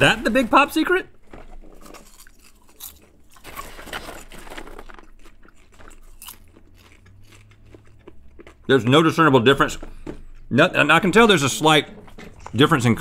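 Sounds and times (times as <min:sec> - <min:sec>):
people crunching popcorn: 0:00.0 - 0:13.0.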